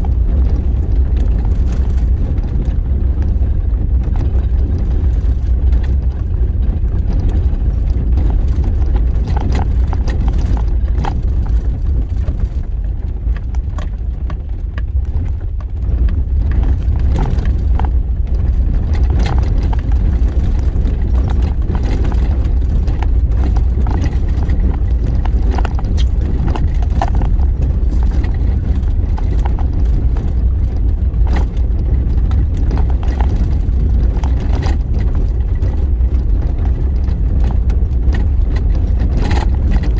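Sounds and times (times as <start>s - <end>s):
knocks and rattles: 0.0s - 39.9s
vehicle engine and road rumble: 0.0s - 39.9s.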